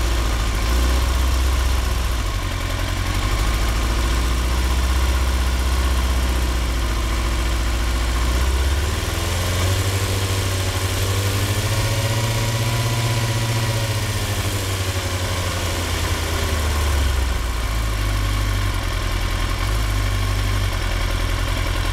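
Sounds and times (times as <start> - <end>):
motorcycle engine idling roughly: 0.0 - 21.9.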